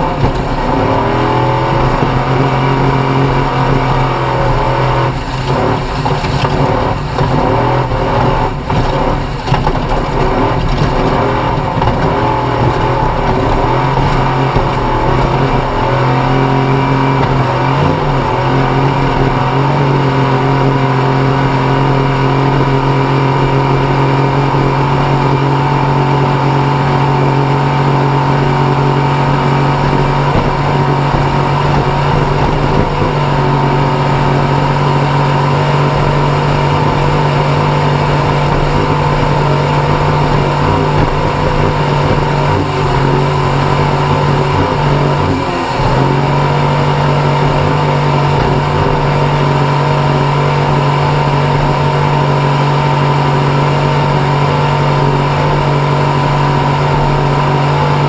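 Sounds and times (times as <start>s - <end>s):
race vehicle engine revving: 0.0s - 58.0s.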